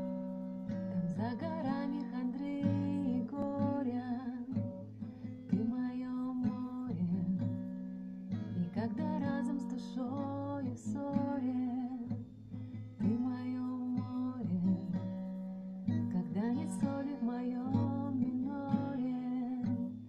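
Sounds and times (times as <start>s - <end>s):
acoustic guitar strumming: 0.0s - 20.0s
woman singing: 0.9s - 7.7s, 8.3s - 15.2s, 15.9s - 20.0s.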